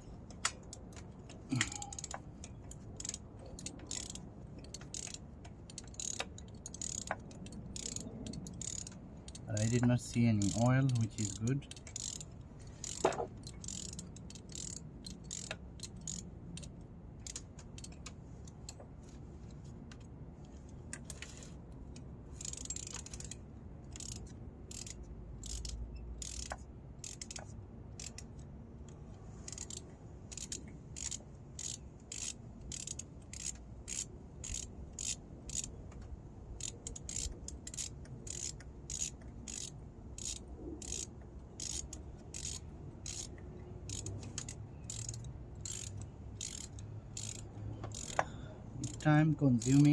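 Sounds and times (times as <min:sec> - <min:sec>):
ratchet wrench clicking: 0:00.3 - 0:18.8, 0:19.4 - 0:49.9.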